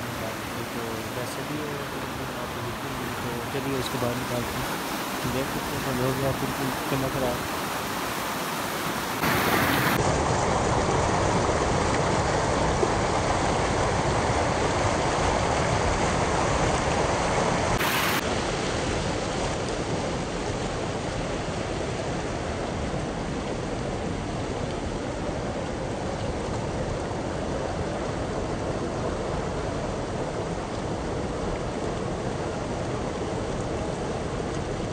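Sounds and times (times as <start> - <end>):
stream rushing over rock: 0.0 - 34.9.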